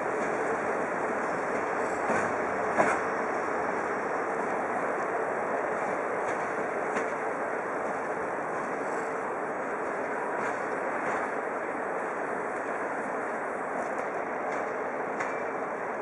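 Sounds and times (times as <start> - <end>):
faint hum: 0.0 - 16.0
train rumbling: 0.0 - 16.0.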